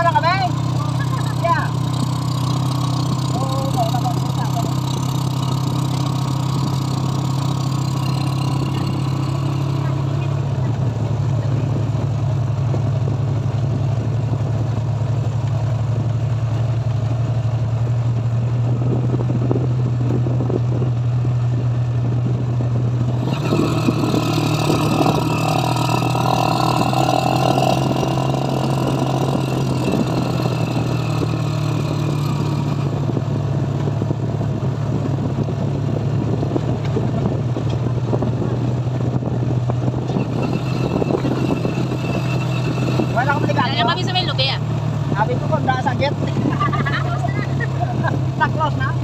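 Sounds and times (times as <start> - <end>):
small vehicle engine droning: 0.0 - 49.0.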